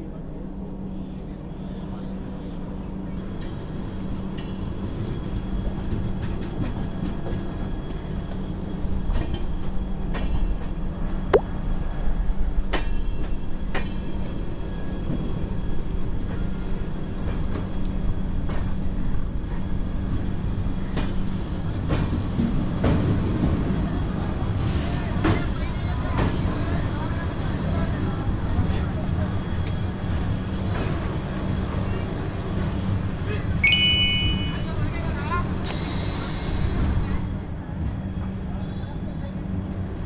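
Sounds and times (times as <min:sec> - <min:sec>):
train rumbling on track: 0:00.0 - 0:40.0.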